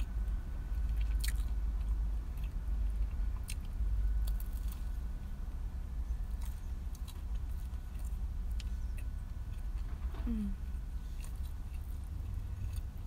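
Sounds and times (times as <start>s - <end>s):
chewing and biting sandwich: 0.0s - 5.4s, 6.2s - 9.9s, 10.8s - 13.0s
low hum: 0.0s - 13.0s.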